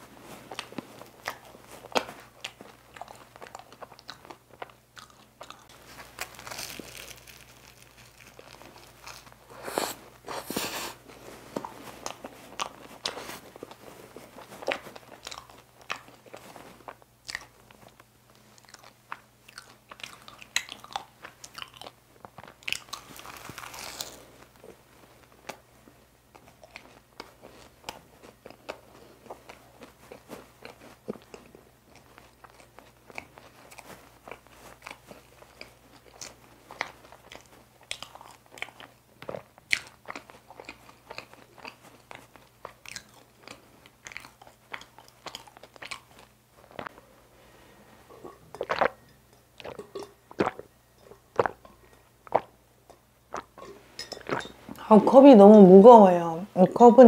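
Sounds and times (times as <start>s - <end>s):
chewing with mouth clicks: 0.3s - 25.6s, 26.3s - 47.0s, 48.1s - 54.8s.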